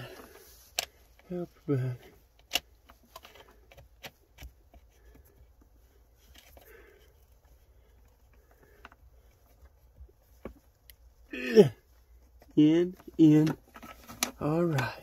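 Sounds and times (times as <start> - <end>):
wires clicking and rustling: 0.0 - 1.4, 2.0 - 11.3, 11.9 - 15.0.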